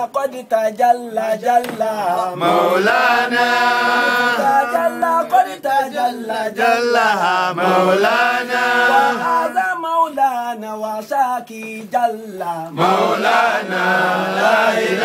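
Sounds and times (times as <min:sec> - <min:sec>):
men chanting: 0:01.2 - 0:15.0.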